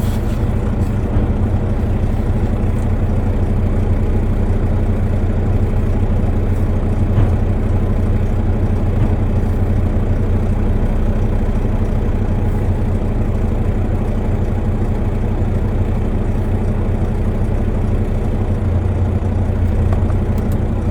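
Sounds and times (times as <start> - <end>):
heavy engine idling: 0.0 - 20.9.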